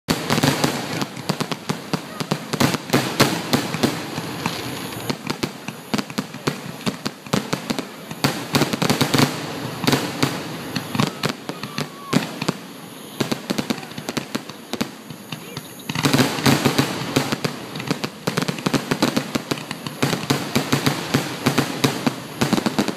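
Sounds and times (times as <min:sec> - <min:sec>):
firework shells bursting: 0:00.1 - 0:22.9
fireworks crackle and hiss: 0:00.1 - 0:22.9.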